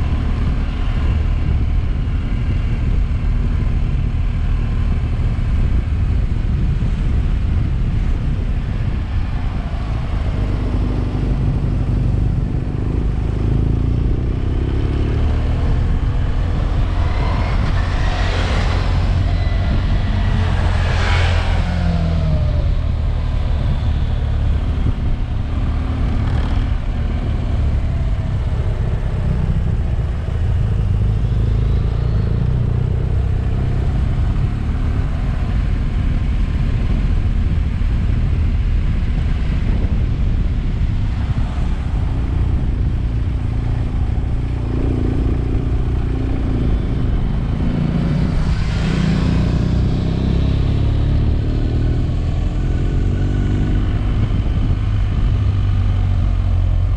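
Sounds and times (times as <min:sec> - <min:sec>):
motorcycle engine drone: 0:00.0 - 0:56.9
road and wind noise: 0:00.0 - 0:56.9.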